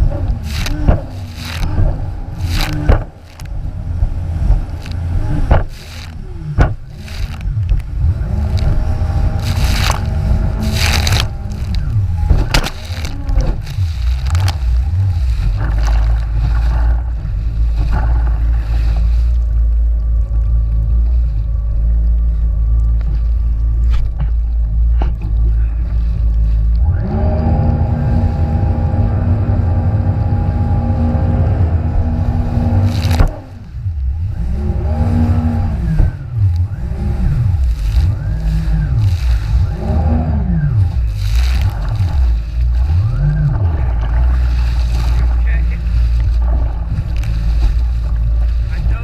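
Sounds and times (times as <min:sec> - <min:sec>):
jet ski engine droning: 0:00.0 - 0:49.0
water slapping against hull: 0:00.0 - 0:49.0.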